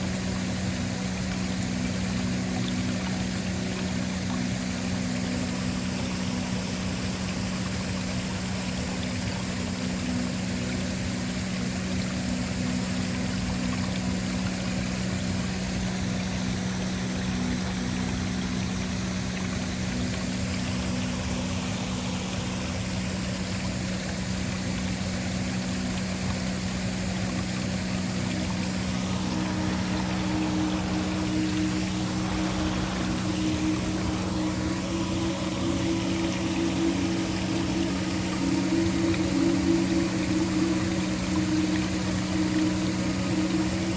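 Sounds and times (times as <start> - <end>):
ambient background music drone: 0.0 - 43.9
waterfall rushing: 0.0 - 43.9.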